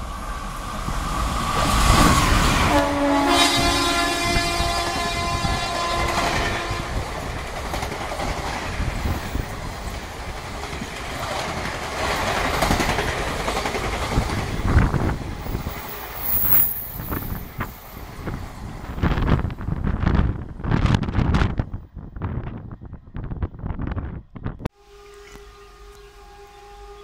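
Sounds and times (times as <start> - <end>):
train wheels rushing on rails: 0.0 - 21.8
wind gusts on microphone: 0.0 - 24.7.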